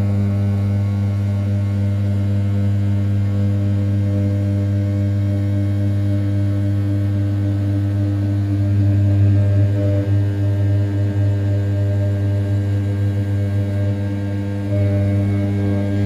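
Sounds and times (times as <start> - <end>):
cnc spindle humming: 0.0 - 16.0.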